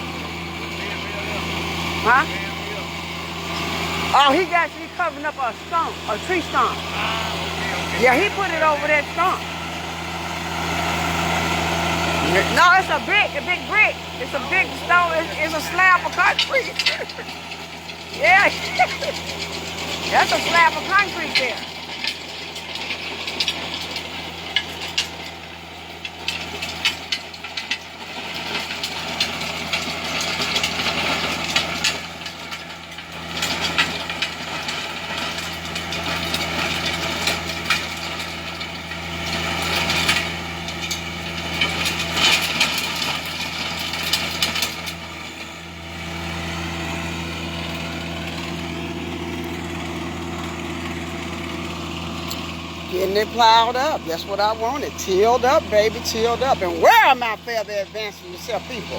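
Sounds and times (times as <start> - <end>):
implement scraping soil: 0.0 - 58.9
tractor engine running: 0.0 - 58.9.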